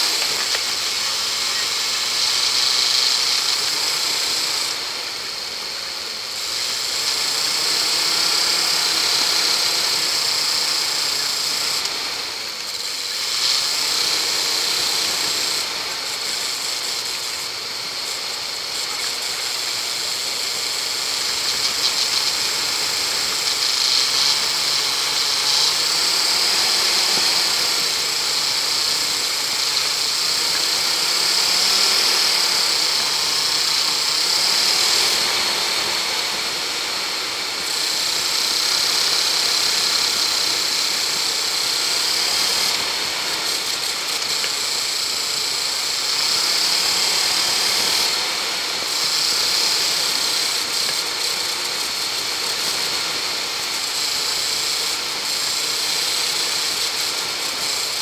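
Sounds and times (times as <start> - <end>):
off-road engine pulling: 0.0 - 58.0
steady high hiss: 0.0 - 58.0.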